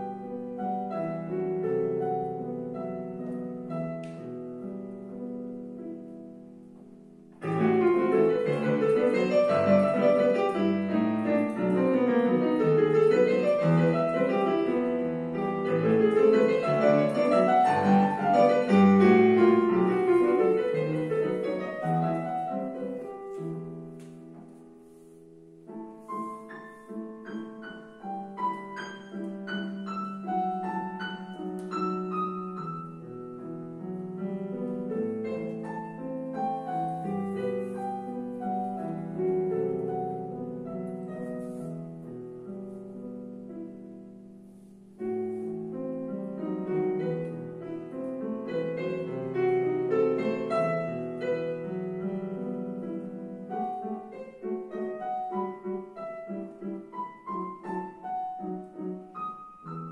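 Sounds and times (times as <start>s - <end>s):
digital piano solo: 0.0s - 59.9s.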